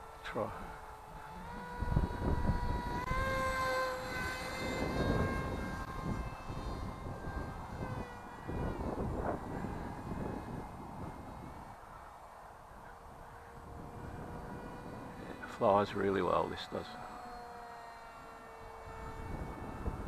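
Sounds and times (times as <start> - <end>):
electric motor and propeller whining: 0.0 - 20.0
wind buffeting microphone: 0.0 - 20.0.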